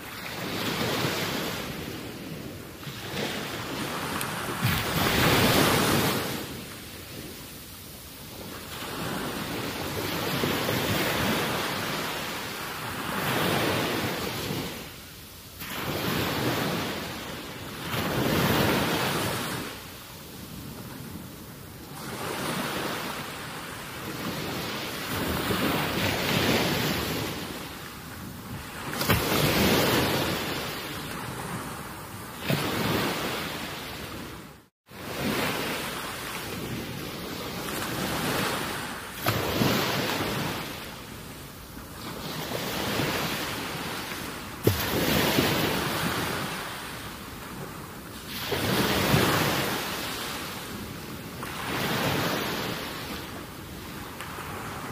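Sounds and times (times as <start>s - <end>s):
wind and water hiss at shoreline: 0.0s - 54.9s.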